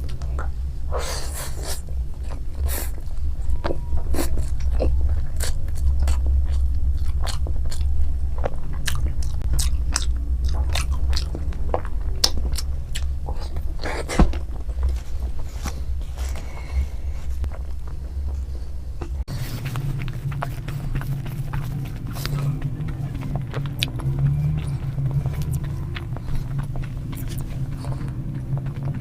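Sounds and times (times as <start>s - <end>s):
mouth clicks and smacks: 0.0s - 15.0s, 19.0s - 29.0s
person chewing noodles: 0.0s - 29.0s
steady low hum: 0.0s - 29.0s.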